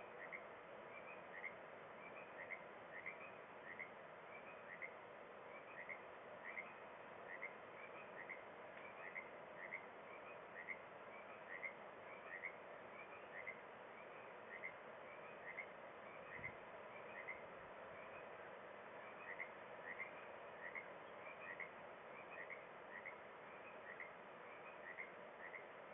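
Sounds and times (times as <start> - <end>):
faint background hiss: 0.0 - 25.9
frogs calling: 0.1 - 18.4, 19.0 - 25.8.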